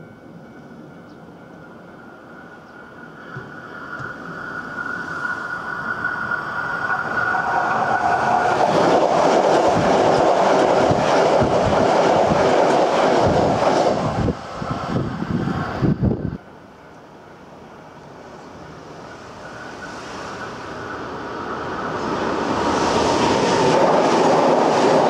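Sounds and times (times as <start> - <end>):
electric train whine: 0.0 - 25.0.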